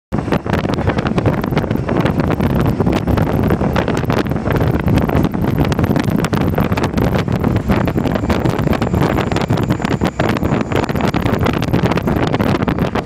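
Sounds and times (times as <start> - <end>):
wind buffeting microphone: 0.1 - 13.0
locomotive running noise: 0.2 - 13.0.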